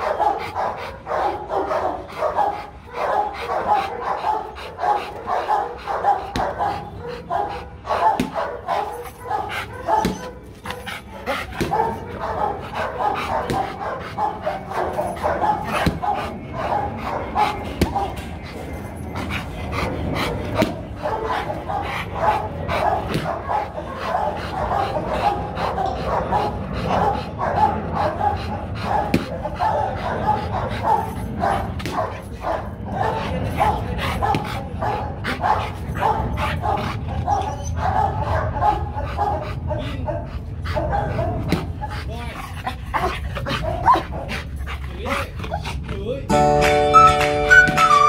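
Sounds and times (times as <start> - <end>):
dog barking: 0.0 - 18.3, 20.1 - 41.8, 42.7 - 44.4
dog panting: 0.0 - 46.3.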